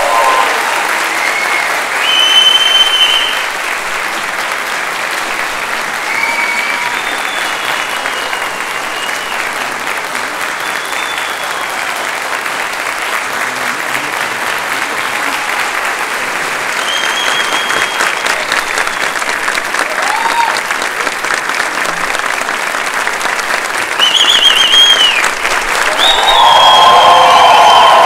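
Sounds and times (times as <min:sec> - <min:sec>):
audience applause: 0:00.0 - 0:28.0.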